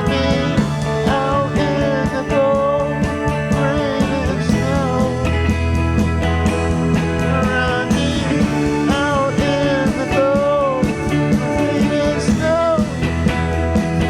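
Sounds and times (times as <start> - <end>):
drums keeping a steady beat: 0.0 - 14.0
rock band playing live: 0.0 - 14.0.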